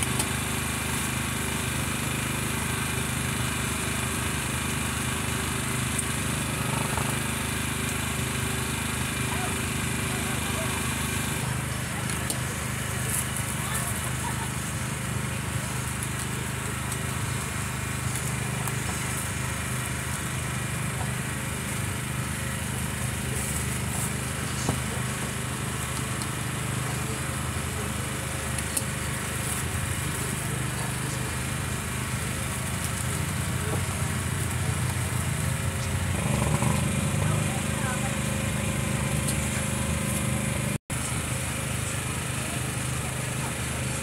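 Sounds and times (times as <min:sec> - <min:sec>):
small engine humming: 0:00.0 - 0:44.0.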